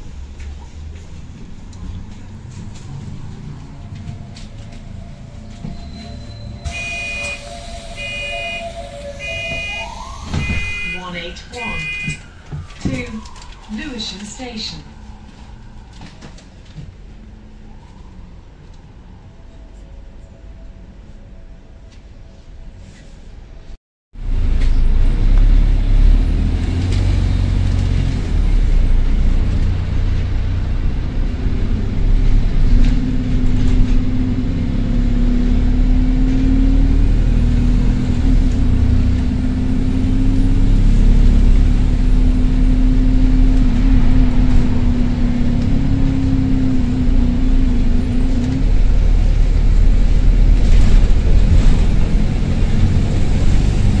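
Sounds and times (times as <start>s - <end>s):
bus diesel engine rumble: 0.0s - 23.6s, 24.2s - 54.0s.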